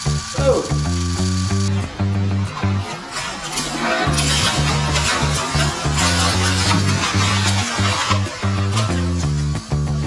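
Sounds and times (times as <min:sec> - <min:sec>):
bass line: 0:00.0 - 0:03.0, 0:04.1 - 0:10.0
plucked guitar: 0:00.0 - 0:03.1, 0:04.0 - 0:10.0.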